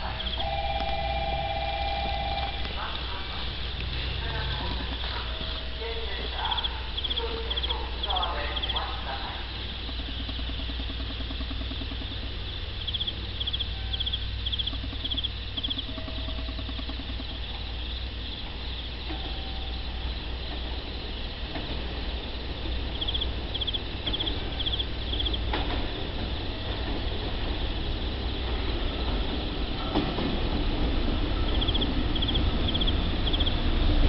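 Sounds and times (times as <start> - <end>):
electric train approaching: 0.0 - 34.0
insects chirping: 0.0 - 34.0
steady low rumble: 0.0 - 34.0.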